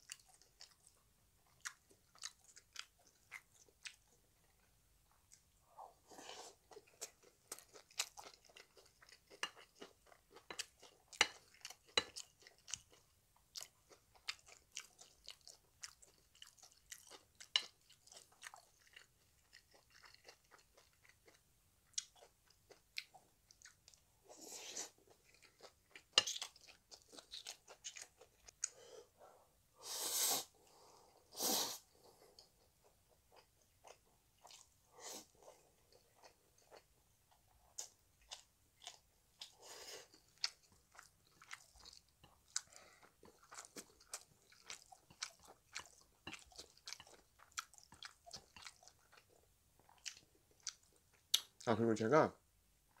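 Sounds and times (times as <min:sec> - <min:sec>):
wet chewing and mouth smacks: 0:00.0 - 0:05.6, 0:06.6 - 0:24.1, 0:24.9 - 0:28.8, 0:32.3 - 0:34.8, 0:35.5 - 0:51.6.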